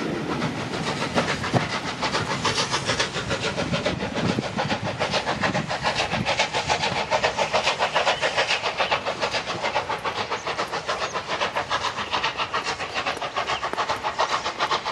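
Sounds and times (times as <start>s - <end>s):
steam hiss: 0.0s - 14.9s
steam locomotive exhaust beats: 0.0s - 14.9s.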